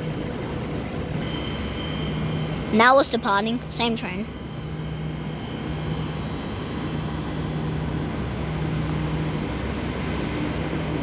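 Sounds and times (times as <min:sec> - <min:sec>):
electric train motor hum: 0:00.0 - 0:11.0.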